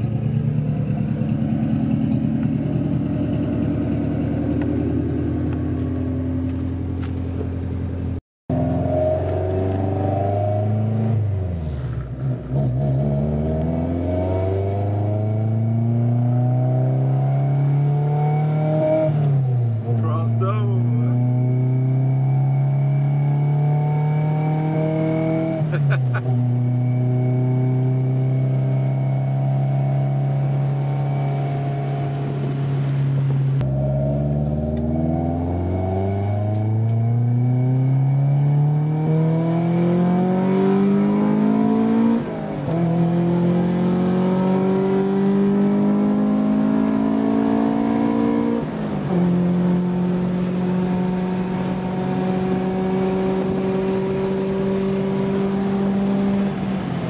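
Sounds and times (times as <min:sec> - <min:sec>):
four-cylinder engine revving: 0:00.0 - 0:57.0.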